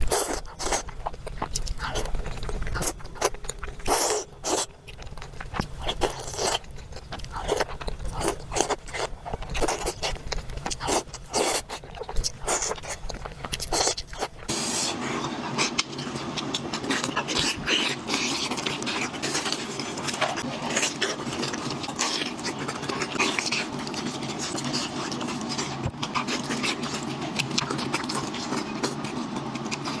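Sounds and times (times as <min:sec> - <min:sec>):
wet chewing and lip-smacking: 0:00.0 - 0:14.5, 0:15.6 - 0:30.0.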